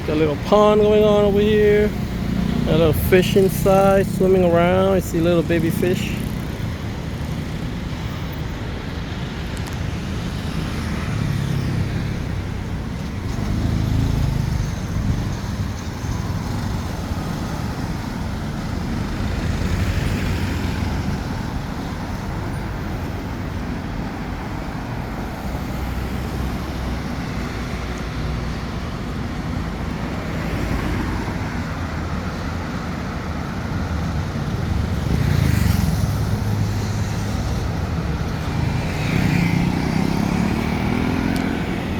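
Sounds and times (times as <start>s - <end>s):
road traffic: 0.0s - 41.9s
vehicles passing close by: 0.0s - 41.9s.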